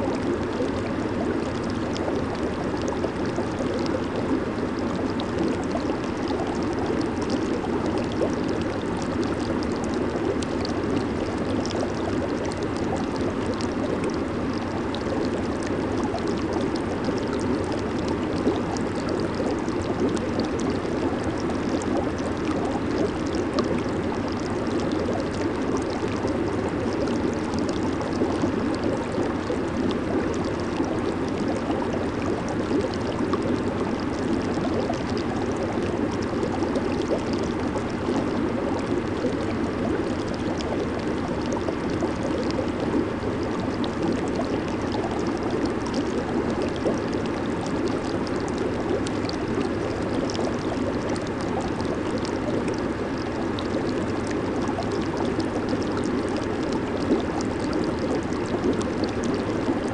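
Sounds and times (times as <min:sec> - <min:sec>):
hot tub jets bubbling: 0:00.0 - 0:59.9.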